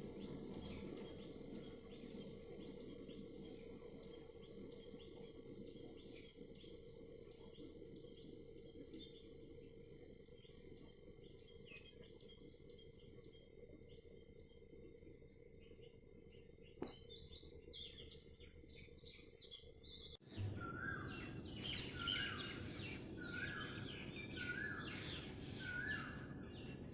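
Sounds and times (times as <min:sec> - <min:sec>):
birds chirping faintly: 0:00.0 - 0:26.9
steady low hum: 0:00.0 - 0:26.9.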